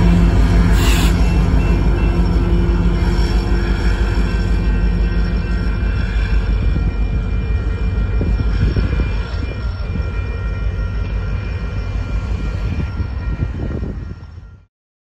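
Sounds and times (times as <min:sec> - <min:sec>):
high ringing tones: 0:00.0 - 0:14.7
train wheels rumbling on track: 0:00.0 - 0:14.7.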